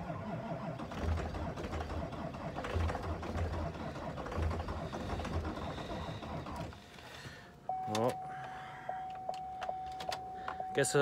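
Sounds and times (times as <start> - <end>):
diesel engine starter cranking: 0.0 - 10.5.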